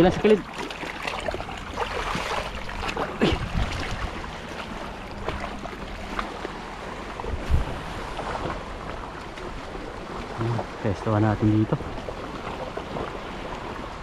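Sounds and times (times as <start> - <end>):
sea waves washing: 0.0 - 14.0
wind at shoreline: 0.0 - 14.0.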